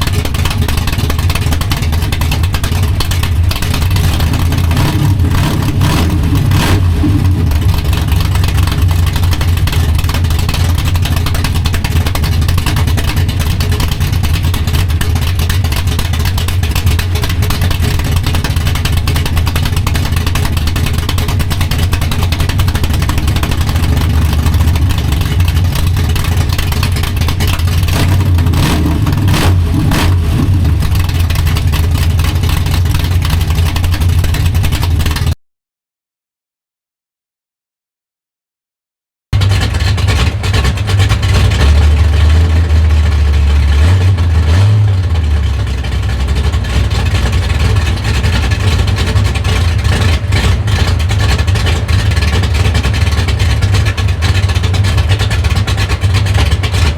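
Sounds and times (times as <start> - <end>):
deep engine exhaust note: 0.0 - 35.4, 39.4 - 56.9.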